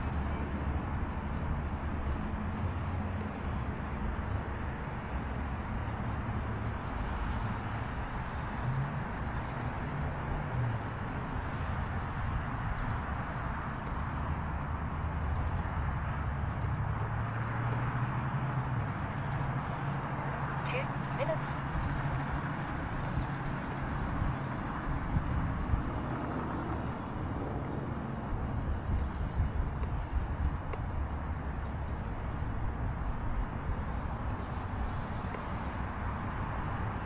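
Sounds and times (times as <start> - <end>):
wind rumble on microphone: 0.0 - 37.0
distant model plane motor whine: 0.2 - 16.4, 21.0 - 37.0.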